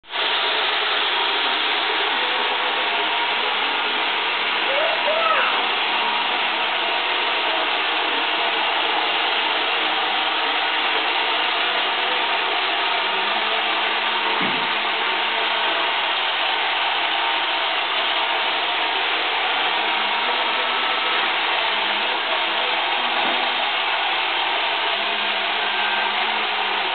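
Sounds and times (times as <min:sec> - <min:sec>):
robot vacuum cleaner whirring: 0:00.2 - 0:26.9.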